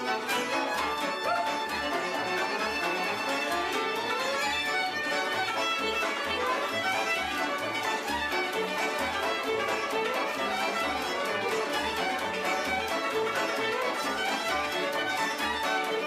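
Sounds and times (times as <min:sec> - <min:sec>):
violin music over a beat: 0:00.0 - 0:16.0.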